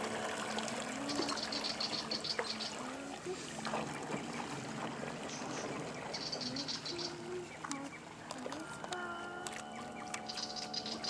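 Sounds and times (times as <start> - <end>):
water lapping at bank: 0.0 - 11.0.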